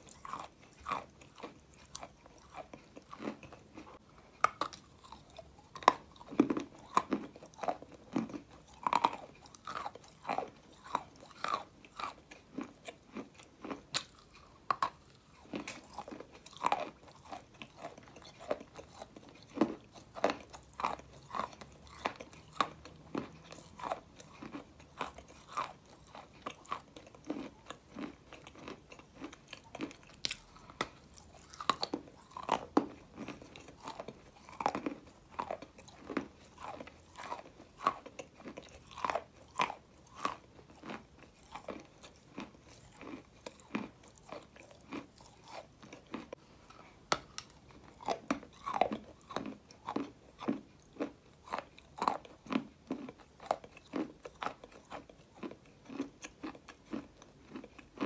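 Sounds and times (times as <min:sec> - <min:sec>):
gritty crunching of chewing clay: 0:00.0 - 0:58.0.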